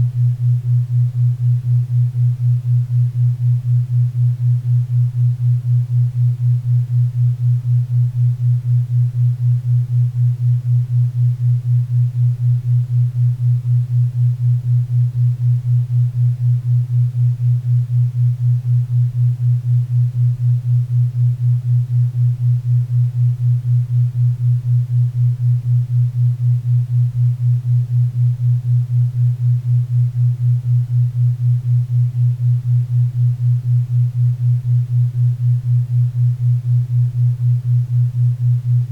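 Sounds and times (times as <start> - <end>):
low pulsing hum: 0.0 - 38.9.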